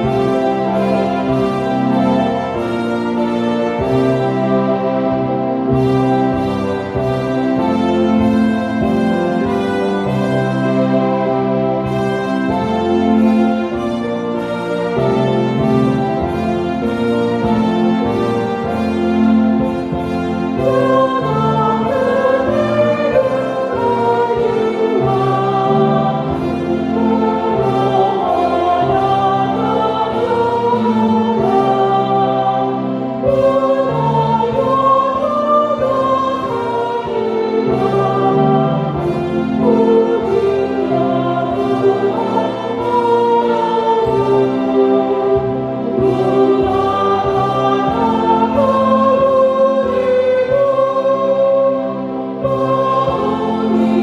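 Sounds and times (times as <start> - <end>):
choir singing a hymn: 0.0 - 54.0
steady bass line: 0.0 - 54.0.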